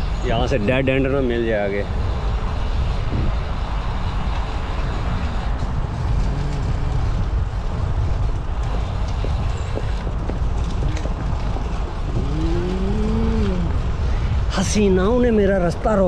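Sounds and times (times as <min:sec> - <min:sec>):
bicycle tyres rolling: 0:00.0 - 0:16.0
wind on microphone: 0:00.0 - 0:16.0.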